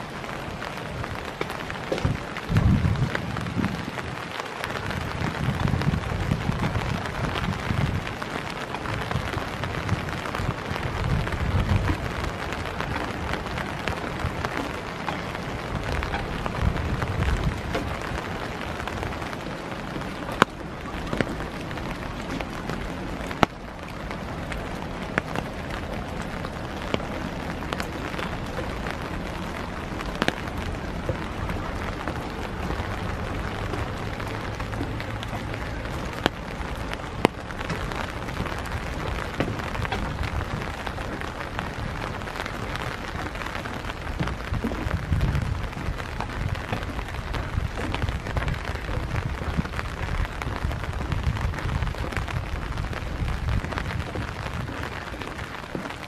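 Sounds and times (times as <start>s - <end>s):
low bumps: 0.0s - 56.0s
rain hissing: 0.0s - 56.0s.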